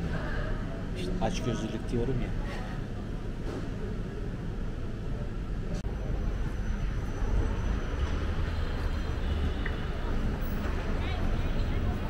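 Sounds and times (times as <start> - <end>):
restaurant room noise: 0.0 - 12.0
street traffic rumble: 0.0 - 12.0.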